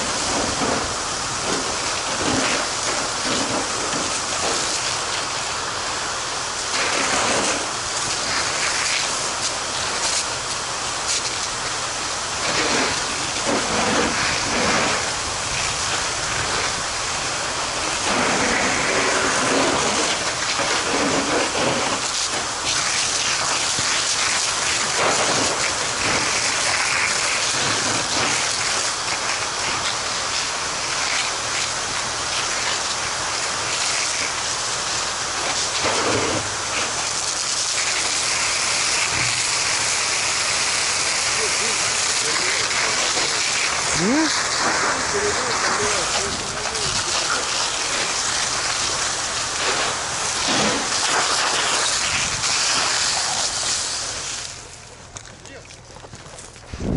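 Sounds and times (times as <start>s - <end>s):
hose water jet hissing: 0.0s - 55.0s.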